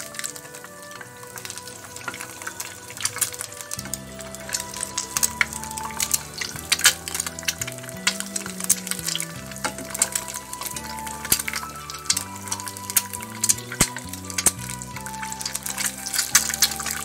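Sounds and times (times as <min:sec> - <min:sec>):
background music low notes: 0:00.0 - 0:17.0
egg frying in oil: 0:00.0 - 0:17.0.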